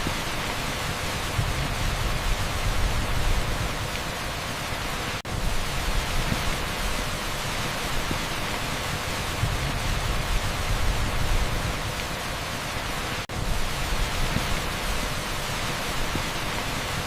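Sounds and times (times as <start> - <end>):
torrential rain on asphalt: 0.0 - 17.0.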